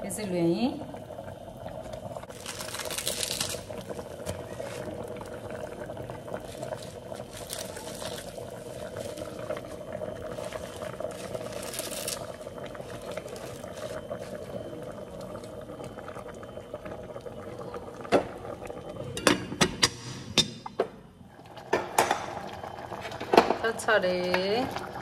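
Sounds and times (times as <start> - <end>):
pot boiling and bubbling: 0.0 - 25.0.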